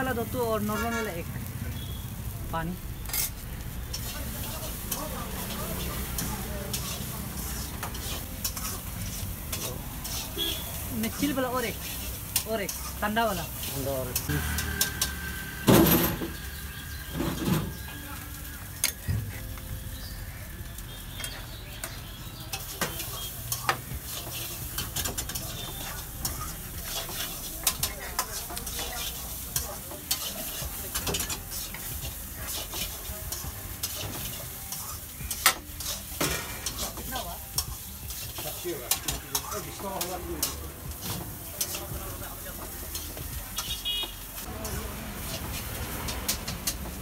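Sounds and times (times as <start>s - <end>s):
food sizzling on a griddle: 0.0s - 47.0s
metal spatula scraping: 3.0s - 16.4s, 22.5s - 46.8s.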